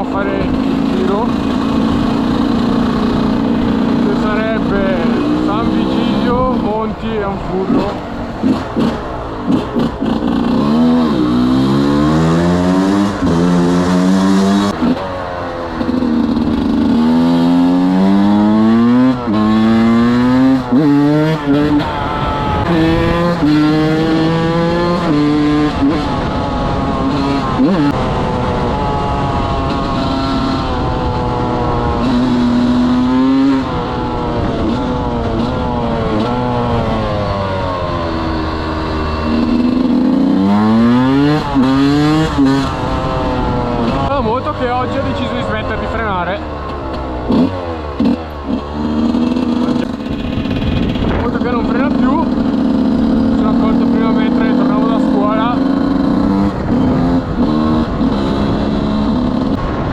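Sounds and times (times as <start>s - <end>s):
two-stroke motorcycle revving: 0.0s - 59.9s.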